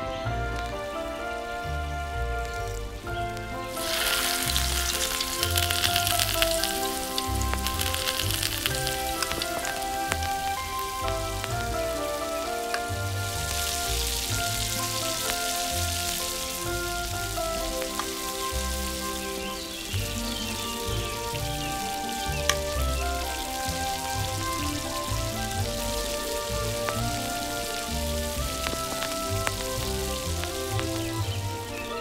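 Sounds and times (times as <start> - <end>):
background music with pulsing bass: 0.0 - 32.0
eggs sizzling in hot oil: 2.5 - 32.0.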